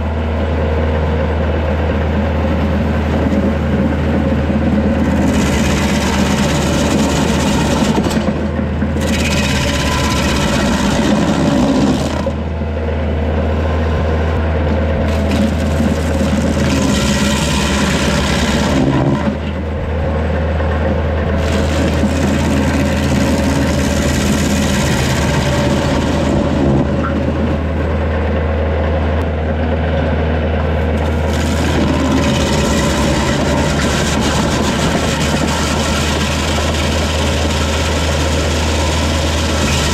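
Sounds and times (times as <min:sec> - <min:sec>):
tractor diesel engine running: 0:00.0 - 0:39.9
stump grinder grinding wood: 0:01.9 - 0:28.3, 0:30.6 - 0:39.9.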